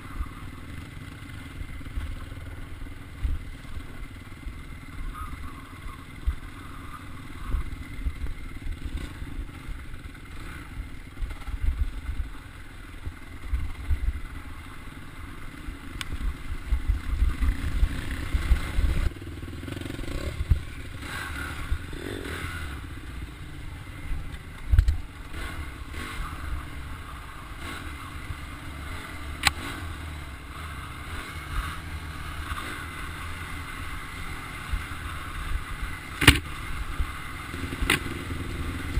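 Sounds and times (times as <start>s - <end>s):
dirt bike engine rumbling: 0.0s - 38.9s.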